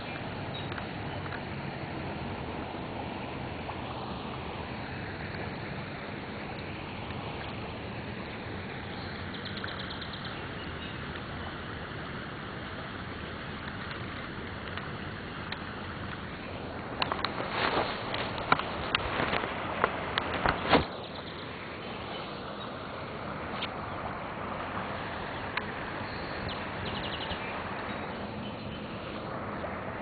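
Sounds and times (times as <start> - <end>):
creek rushing: 0.0 - 30.0.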